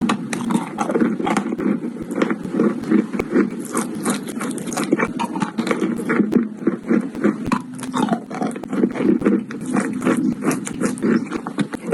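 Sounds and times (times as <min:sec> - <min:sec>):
chalk being chewed crunching: 0:00.0 - 0:11.9.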